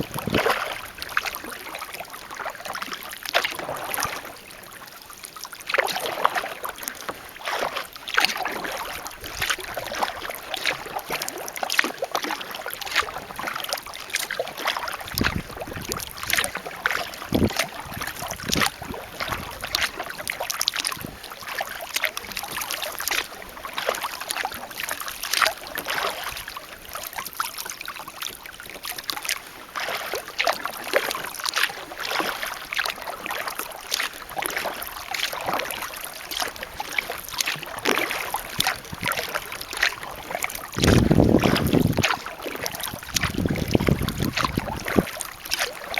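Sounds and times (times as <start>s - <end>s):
paddle strokes splashing water: 0.0s - 45.9s
water dripping off paddle: 5.3s - 45.9s.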